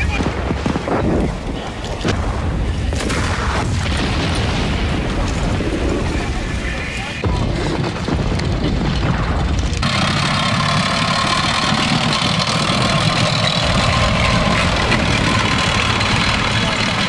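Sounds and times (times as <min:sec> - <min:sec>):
tank engine running: 0:00.0 - 0:17.0
tracks rattling: 0:00.0 - 0:17.0.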